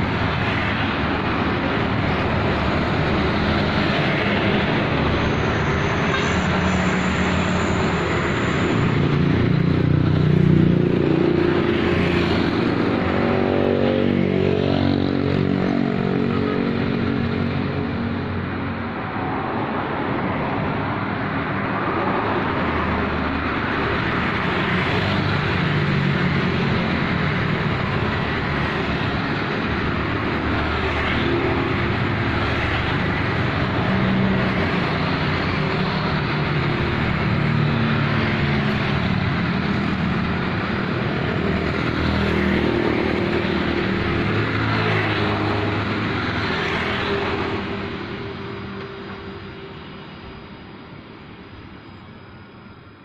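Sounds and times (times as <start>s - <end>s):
cars and motorcycles passing: 0.0s - 53.0s.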